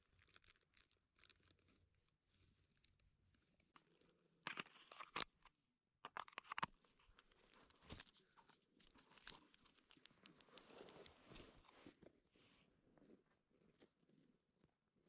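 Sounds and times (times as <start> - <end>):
crinkling and clicking: 0.0 - 12.1.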